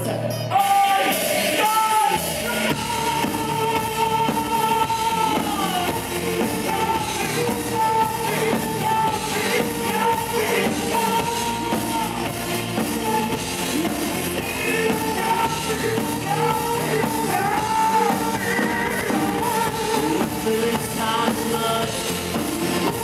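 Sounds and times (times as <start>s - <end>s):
drums: 0.0s - 23.0s
rock band playing live: 0.2s - 23.0s.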